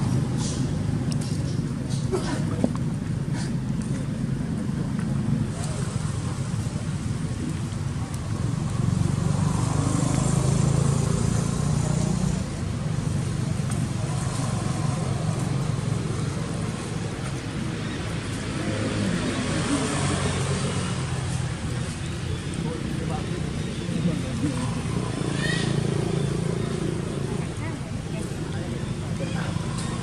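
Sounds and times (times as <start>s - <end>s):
motorbikes passing: 0.0s - 30.0s.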